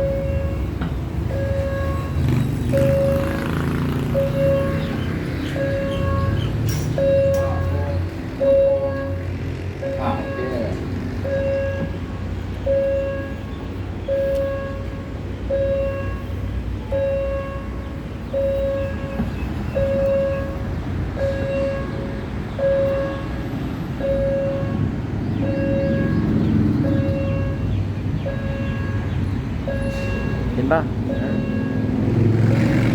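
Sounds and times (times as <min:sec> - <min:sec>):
level crossing warning tone: 0:00.0 - 0:32.6
road traffic rumble: 0:00.0 - 0:32.9.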